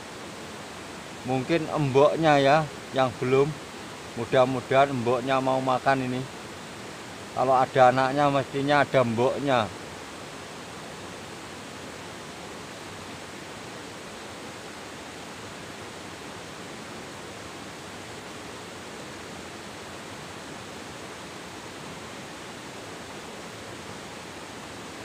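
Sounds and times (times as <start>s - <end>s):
river flowing over rocks: 0.0s - 25.0s.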